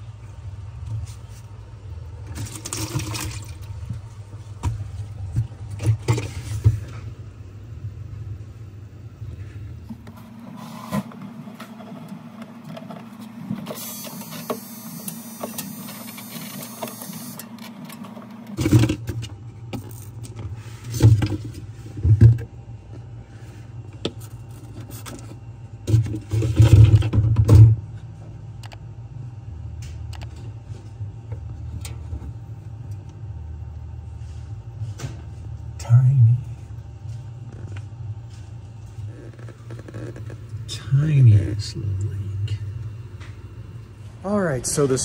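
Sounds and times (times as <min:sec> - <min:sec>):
low mechanical hum: 0:00.0 - 0:45.0.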